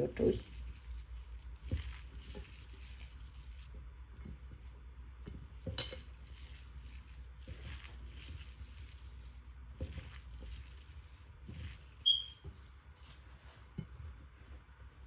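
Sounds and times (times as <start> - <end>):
stirring in a bowl: 0.0 - 15.0.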